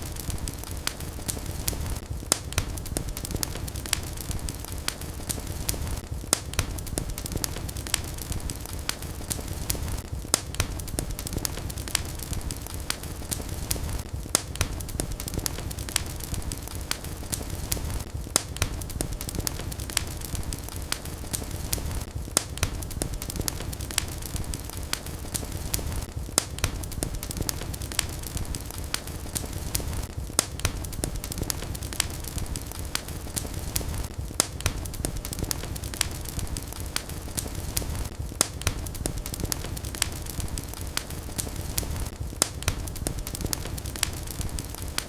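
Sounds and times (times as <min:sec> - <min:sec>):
wood fire crackling in a fireplace: 0:00.0 - 0:45.0.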